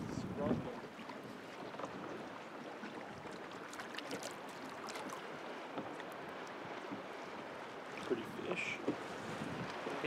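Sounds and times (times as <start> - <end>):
small waves lapping against boat: 0.0 - 10.0
wind: 0.0 - 10.0
light splashes: 0.6 - 10.0.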